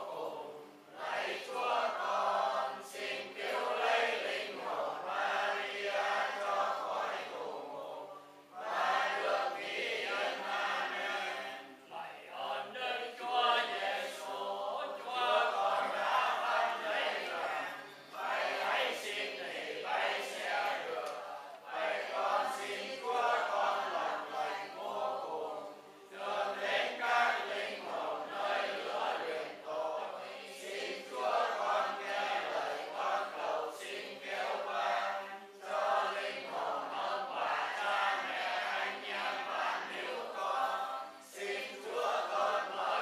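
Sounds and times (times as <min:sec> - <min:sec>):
congregation chanting prayers: 0:00.0 - 0:43.0.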